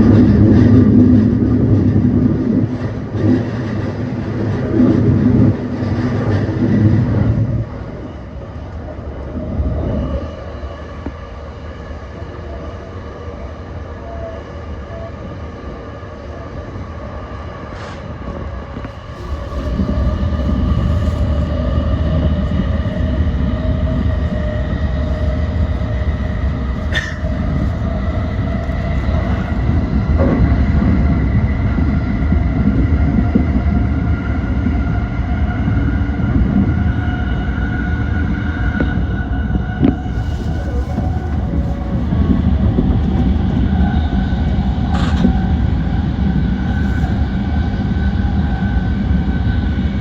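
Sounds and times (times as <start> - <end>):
electric train whine: 0.0 - 50.0
rumble of wheels on track: 0.0 - 50.0.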